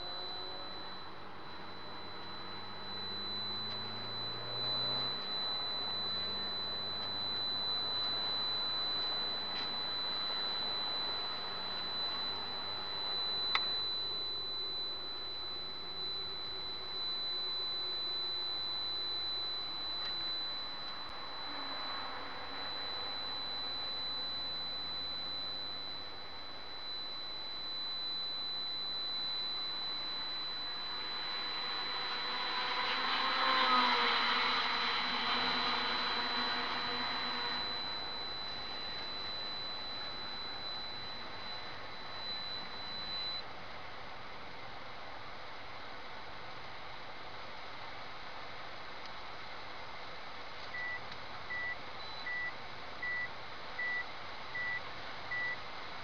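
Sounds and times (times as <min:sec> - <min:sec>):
high-pitched camera whine: 0:00.0 - 0:56.0.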